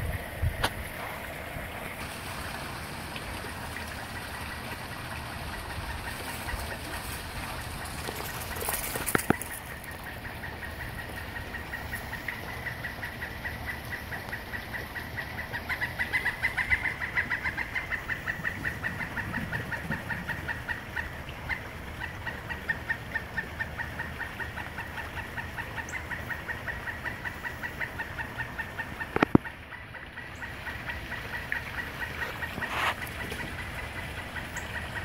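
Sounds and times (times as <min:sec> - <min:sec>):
woodpecker clucking calls: 0:04.4 - 0:35.0.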